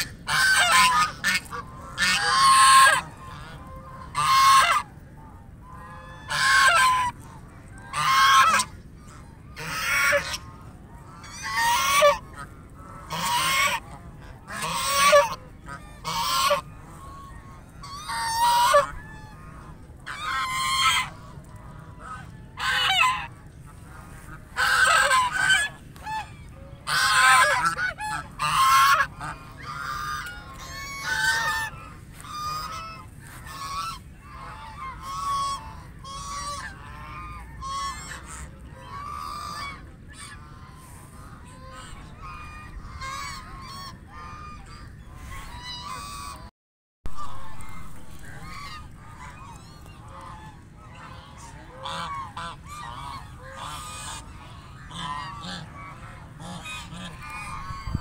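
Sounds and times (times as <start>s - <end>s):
geese honking: 0.0s - 46.5s, 47.1s - 58.0s.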